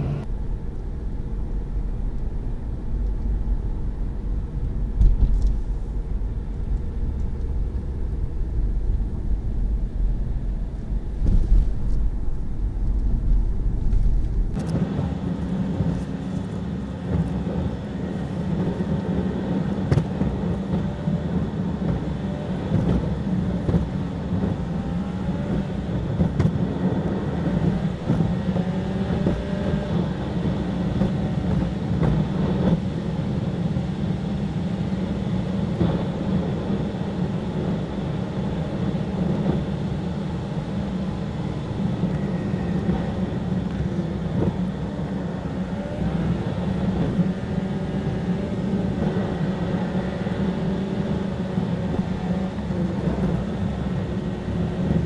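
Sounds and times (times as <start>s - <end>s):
car engine: 0.0s - 55.0s
tyre road noise: 0.0s - 55.0s.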